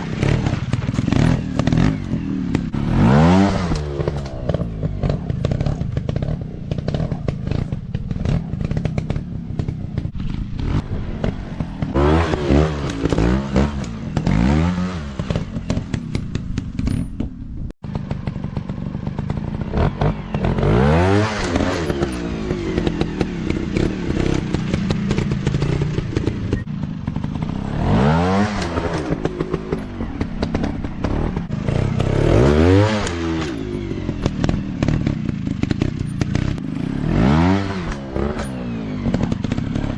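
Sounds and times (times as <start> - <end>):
dirt bike engines revving: 0.0 - 16.9, 17.9 - 39.9.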